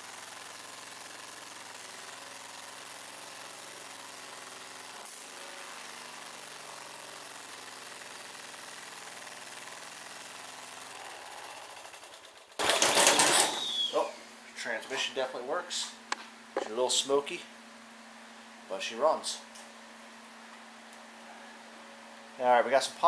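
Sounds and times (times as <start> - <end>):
riding mower engine running: 0.0 - 18.6.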